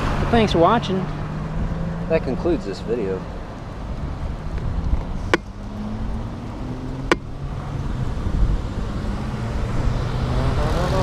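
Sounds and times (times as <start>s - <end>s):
wind buffeting microphone: 0.0s - 10.4s
passing vehicle hum: 0.0s - 11.0s
road traffic noise: 0.0s - 11.0s.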